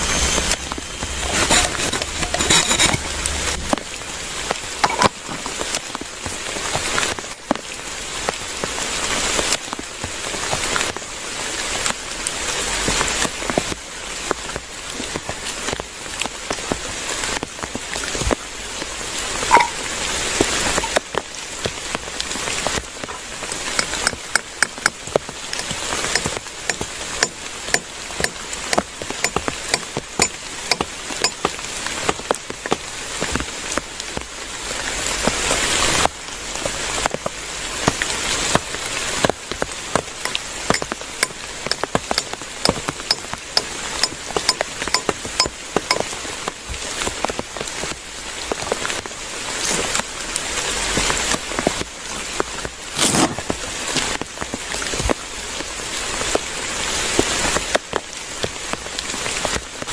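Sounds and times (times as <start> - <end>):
steady rain falling: 3.2 - 59.9
raindrops striking nearby surface: 3.5 - 59.9.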